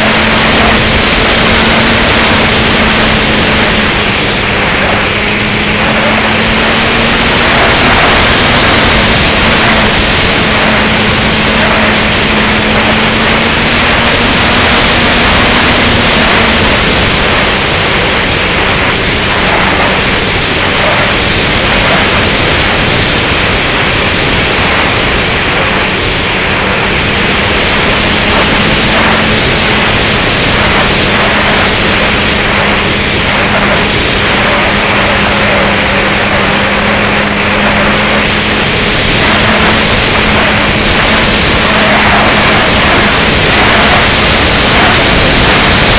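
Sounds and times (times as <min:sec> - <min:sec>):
electric motor and propeller hum: 0:00.0 - 0:45.9
wind rushing on microphone: 0:00.0 - 0:45.9.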